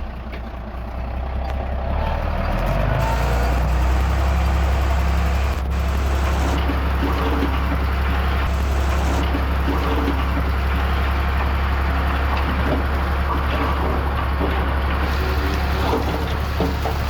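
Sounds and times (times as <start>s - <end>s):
diesel machinery engine drone: 0.0s - 17.0s.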